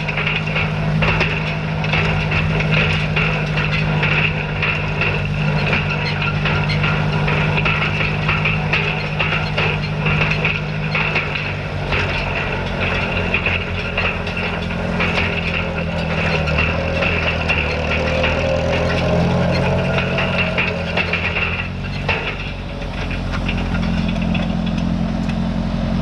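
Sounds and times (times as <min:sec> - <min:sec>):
busy clatter of hay raking: 0:00.0 - 0:26.0
tractor engine running: 0:00.0 - 0:26.0.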